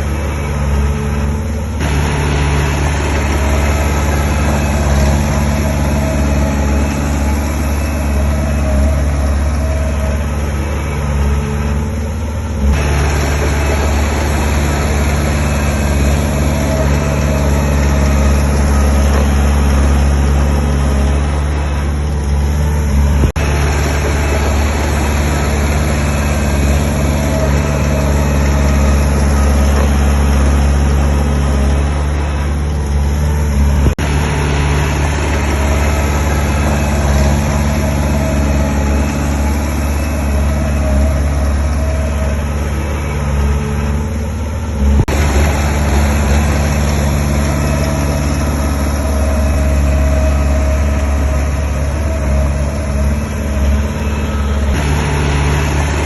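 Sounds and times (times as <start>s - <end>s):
diesel engine of construction machinery: 0.0s - 56.0s.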